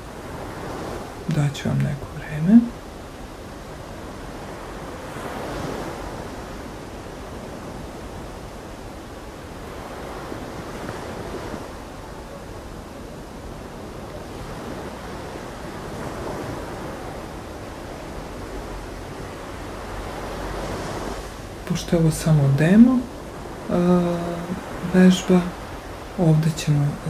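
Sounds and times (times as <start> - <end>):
surf washing onto sandy beach: 0.0 - 27.0.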